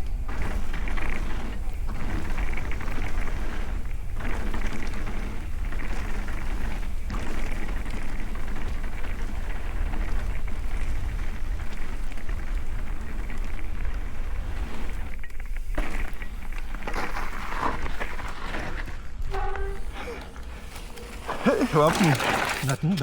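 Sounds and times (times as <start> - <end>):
bike tyres on dirt trail: 0.0 - 23.0.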